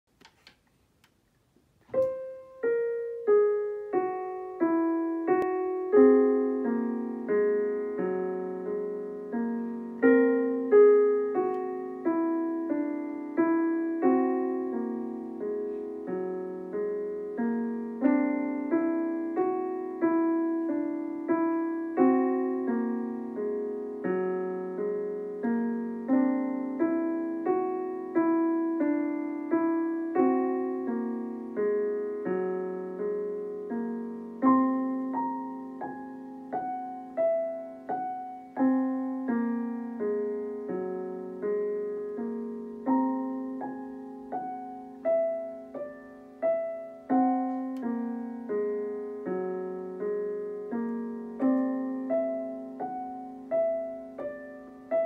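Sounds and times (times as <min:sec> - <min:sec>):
digital piano notes and chords: 0:01.9 - 0:55.0.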